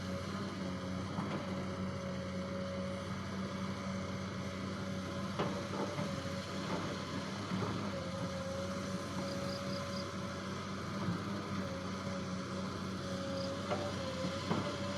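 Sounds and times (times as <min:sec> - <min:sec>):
excavator diesel engine running: 0:00.0 - 0:14.9.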